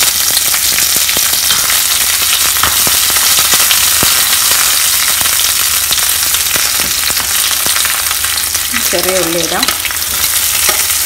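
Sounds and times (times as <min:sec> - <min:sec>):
seeds and leaves sizzling in oil: 0:00.0 - 0:11.0.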